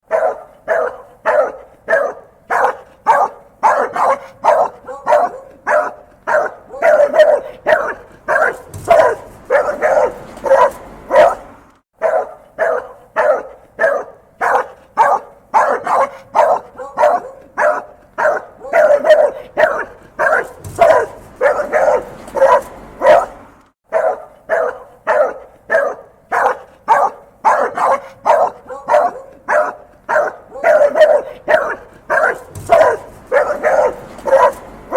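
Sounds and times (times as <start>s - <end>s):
dog barking angrily: 0.0s - 34.9s.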